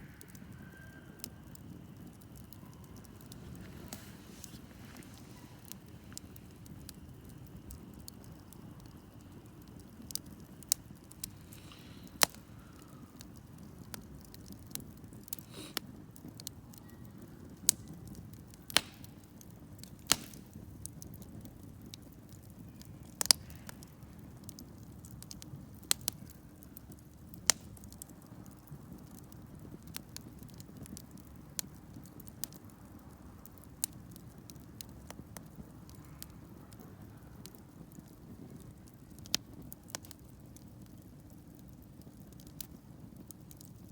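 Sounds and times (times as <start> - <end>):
campfire flames rustling: 0.0 - 43.9
wood popping and crackling: 1.2 - 43.9.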